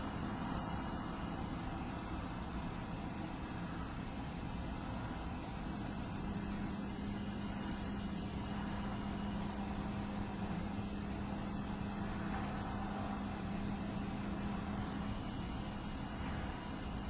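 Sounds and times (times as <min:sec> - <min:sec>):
hard drive high-pitched ringing: 0:00.0 - 0:17.0
low even hum: 0:00.0 - 0:17.0
steady hiss: 0:00.0 - 0:17.0.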